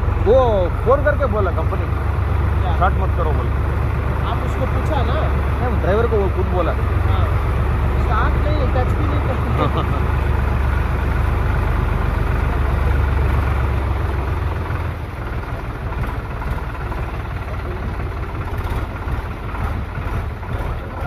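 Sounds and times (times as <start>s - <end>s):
tractor engine rumble: 0.0s - 21.0s.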